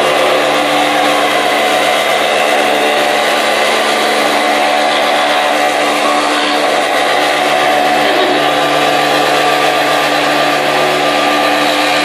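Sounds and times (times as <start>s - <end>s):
machine cutting wooden pole: 0.0s - 12.0s
motor hum: 0.0s - 12.0s.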